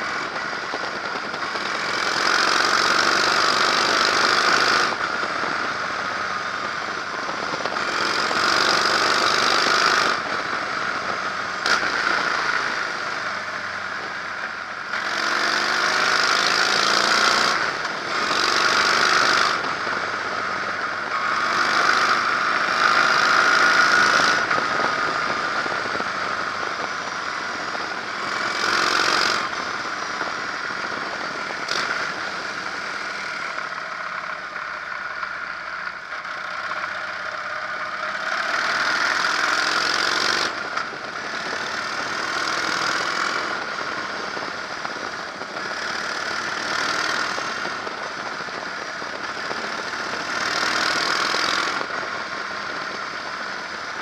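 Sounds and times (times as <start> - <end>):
motorcycle engine running: 0.0 - 54.0
wind and road rush: 0.0 - 54.0.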